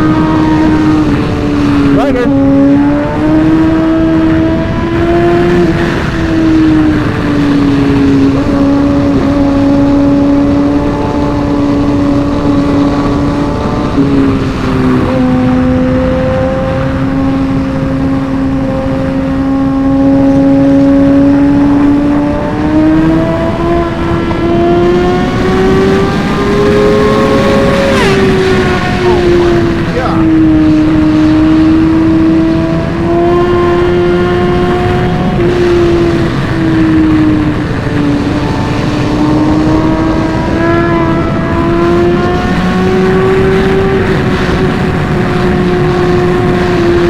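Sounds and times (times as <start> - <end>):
motorcycle engine revving high: 0.0 - 47.0
wind rush: 0.0 - 47.0.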